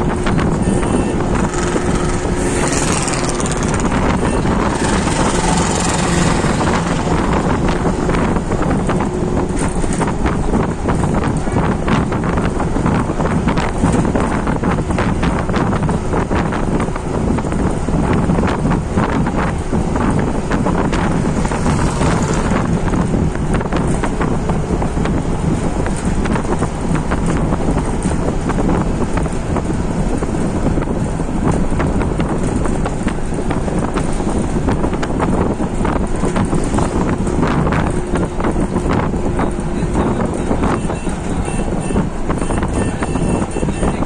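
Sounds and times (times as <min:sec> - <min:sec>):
road and engine rumble: 0:00.0 - 0:44.0
wind buffeting microphone: 0:00.0 - 0:44.0.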